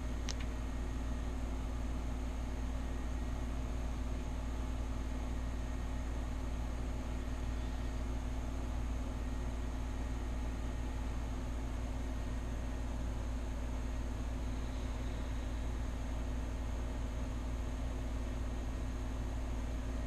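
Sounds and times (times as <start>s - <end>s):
low motor hum with hiss: 0.0s - 20.0s.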